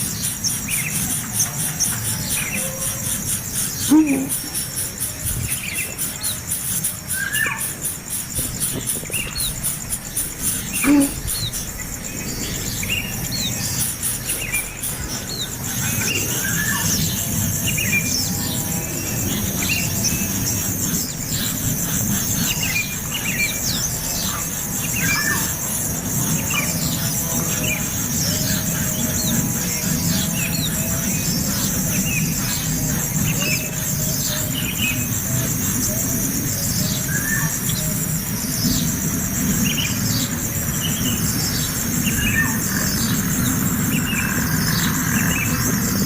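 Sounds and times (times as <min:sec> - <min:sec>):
high pulsing buzz: 0:00.0 - 0:46.0
nestling birds chirping: 0:00.0 - 0:46.0.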